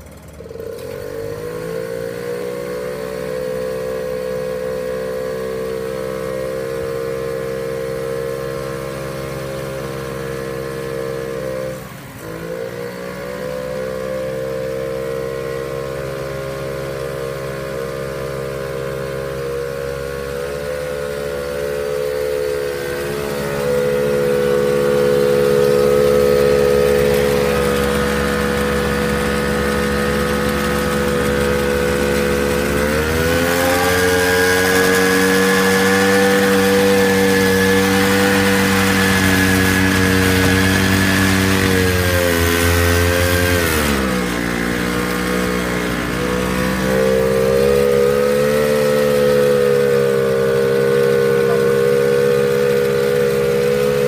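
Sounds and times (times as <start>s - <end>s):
moped engine running: 0.0s - 54.0s
wheel spinning test roller: 0.0s - 54.0s.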